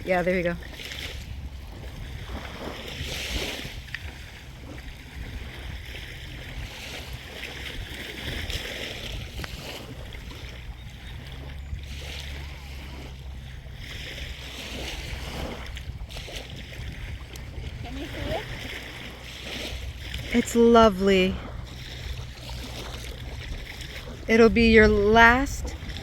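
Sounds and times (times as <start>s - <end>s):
small waves on sandy beach: 0.0s - 26.0s
wind rumbling on microphone: 0.0s - 26.0s.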